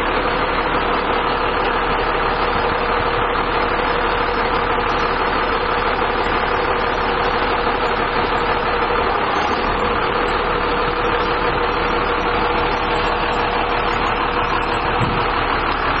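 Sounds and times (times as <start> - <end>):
constant whine: 0.0 - 16.0
truck diesel engine running: 0.0 - 16.0.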